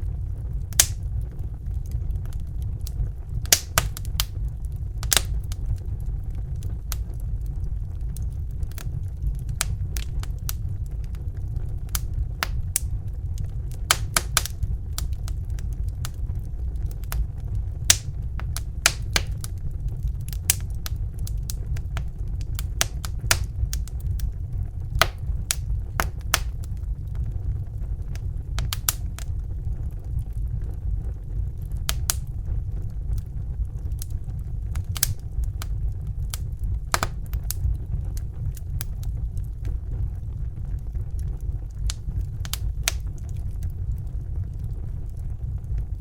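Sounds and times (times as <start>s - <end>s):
fire crackling and popping: 0.0s - 46.0s
low rumble: 0.0s - 46.0s.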